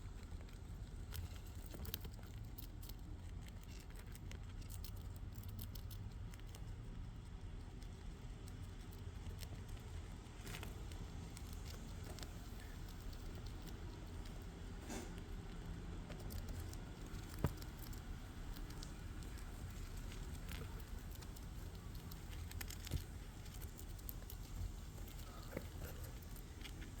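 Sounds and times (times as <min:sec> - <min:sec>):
rat claws pattering and scratching: 0:00.0 - 0:27.0.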